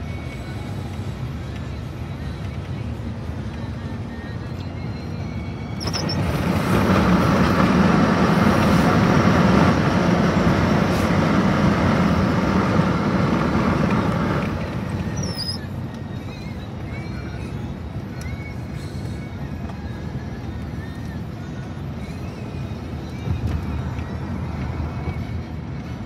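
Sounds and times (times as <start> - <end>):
rushing road and wind noise: 0.0 - 26.0.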